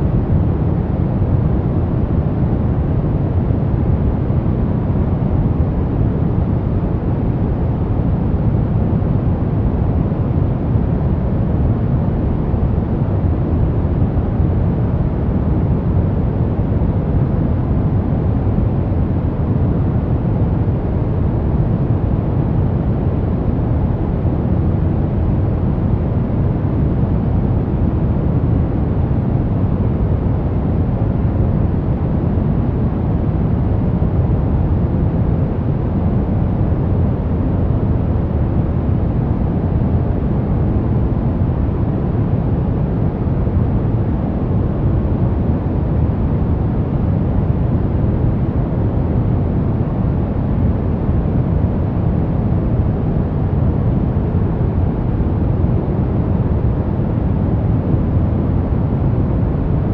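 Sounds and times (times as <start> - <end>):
deep white noise: 0.0 - 59.9.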